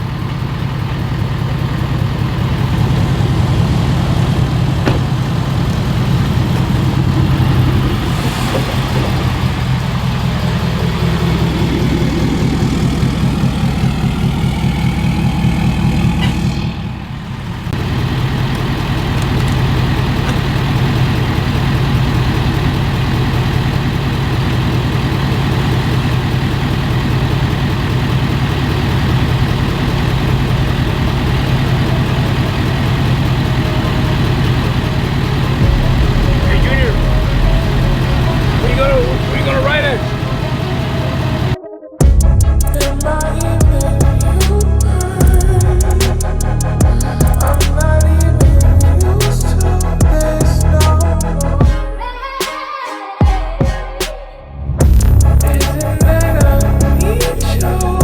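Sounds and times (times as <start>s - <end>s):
truck engine humming: 0.0s - 52.2s, 54.6s - 58.0s.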